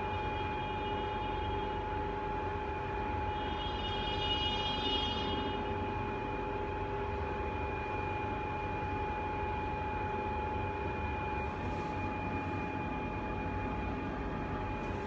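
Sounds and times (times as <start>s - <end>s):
lift running hum: 0.0s - 15.0s.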